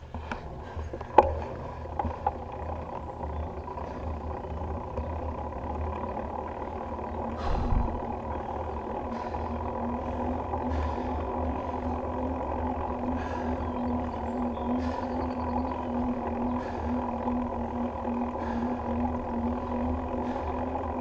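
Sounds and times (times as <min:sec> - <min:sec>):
tyre noise on asphalt: 0:00.0 - 0:21.0
wind rumbling on camera: 0:00.0 - 0:21.0.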